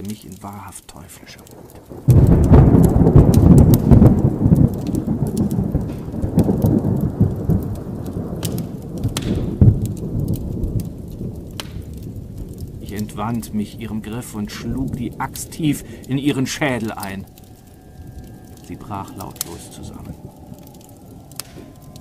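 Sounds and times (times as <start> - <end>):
crackles: 0.0 - 22.0
rain: 0.0 - 22.0
rumbling thunder: 1.4 - 22.0.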